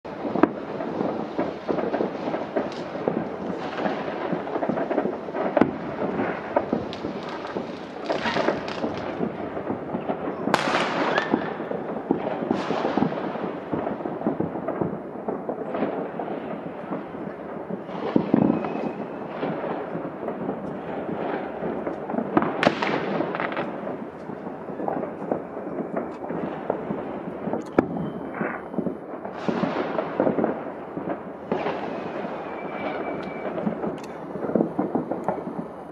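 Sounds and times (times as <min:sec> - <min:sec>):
fireworks bursting and crackling: 0:00.1 - 0:35.9
loud firework reports: 0:00.1 - 0:35.9.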